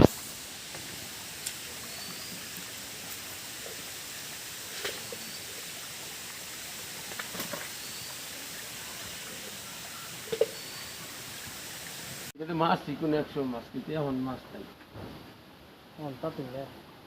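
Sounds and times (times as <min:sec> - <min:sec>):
rainfall hiss: 0:00.0 - 0:17.0.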